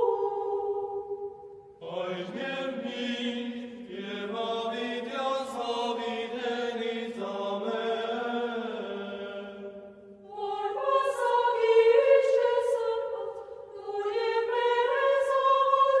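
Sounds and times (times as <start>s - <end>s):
voices chanting sustained notes: 0.0s - 16.0s.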